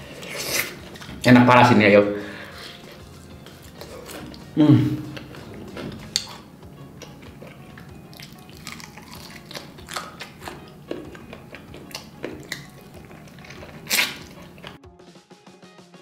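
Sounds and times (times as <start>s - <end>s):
person chewing food: 0.0s - 1.2s, 2.2s - 14.8s.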